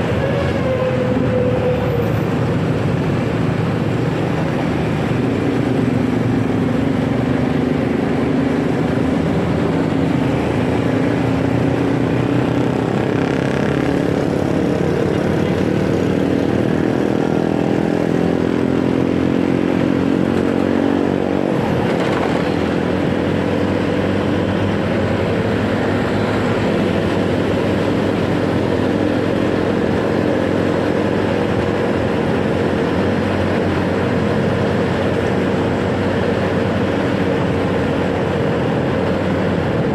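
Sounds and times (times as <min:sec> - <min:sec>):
motorcycle engine: 0:00.0 - 0:39.9
road noise: 0:00.0 - 0:39.9.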